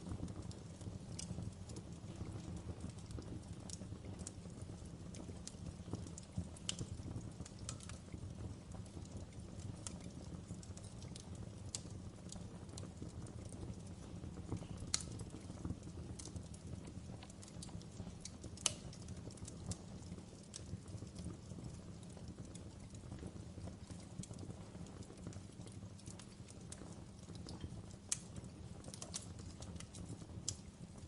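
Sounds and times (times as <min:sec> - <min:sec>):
fire crackling and popping: 0:00.0 - 0:31.0
low fire rumble: 0:00.0 - 0:31.0.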